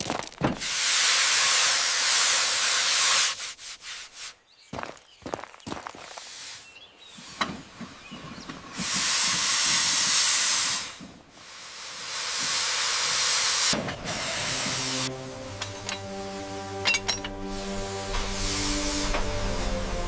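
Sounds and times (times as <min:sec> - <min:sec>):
steam locomotive steam hissing: 0:00.6 - 0:04.3, 0:06.2 - 0:20.0.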